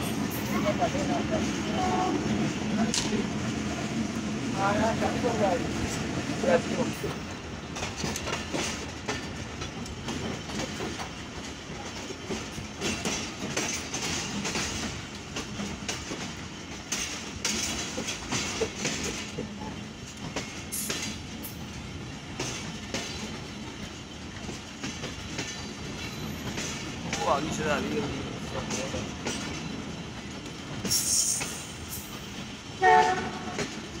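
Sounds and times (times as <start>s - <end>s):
train wheels rumbling on rails: 0.0s - 34.0s
wheels clacking over rail joints: 0.0s - 34.0s.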